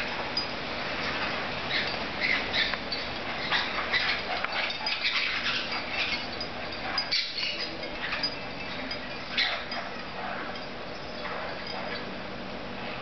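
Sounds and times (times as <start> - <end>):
parakeets calling: 1.6 - 12.2.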